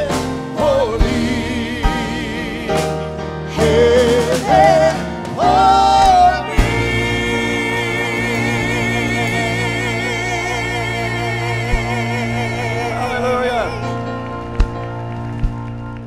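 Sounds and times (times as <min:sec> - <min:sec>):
keyboard and drums: 0:00.0 - 0:16.0.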